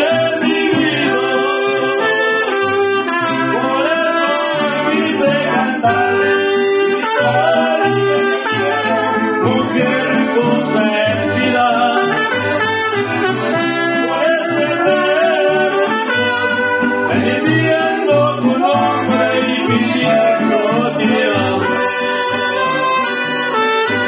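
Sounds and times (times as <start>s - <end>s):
brass melody: 0.0s - 24.0s
man singing: 0.0s - 24.0s
mariachi band playing: 0.0s - 24.0s
plucked bass notes: 4.6s - 24.0s.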